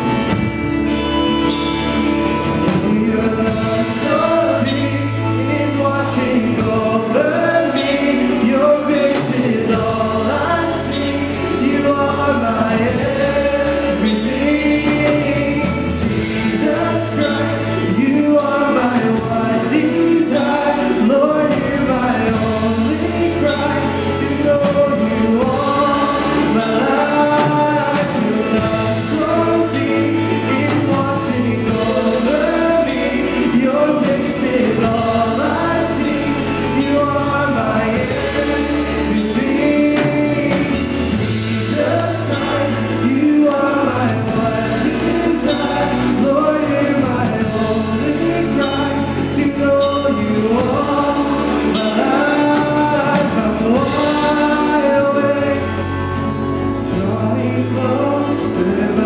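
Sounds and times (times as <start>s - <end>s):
bass guitar: 0.0s - 59.0s
drums: 0.0s - 59.0s
electric and acoustic guitars: 0.0s - 59.0s
man singing: 0.0s - 59.0s.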